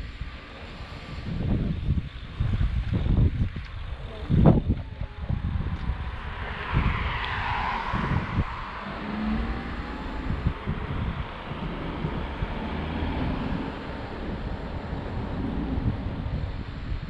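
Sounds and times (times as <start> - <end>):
traffic: 0.0 - 17.0
wind rumbling on microphone: 0.0 - 17.0.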